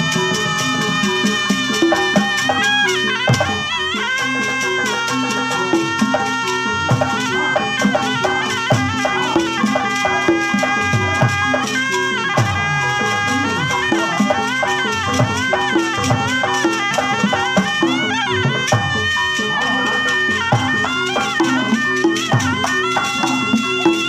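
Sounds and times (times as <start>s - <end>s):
hand drums beating rhythm: 0.0s - 24.0s
shawm playing melody: 0.0s - 24.0s.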